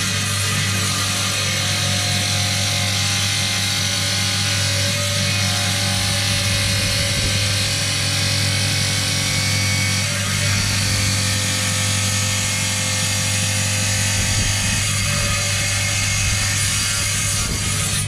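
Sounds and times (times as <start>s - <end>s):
saw blade grinding rock: 0.0s - 18.0s
stone saw motor hum: 0.0s - 18.0s.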